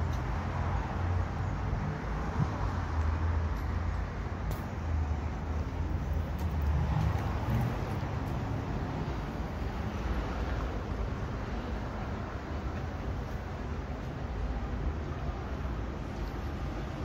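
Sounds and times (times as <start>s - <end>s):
urban background rumble and hiss: 0.0s - 17.0s.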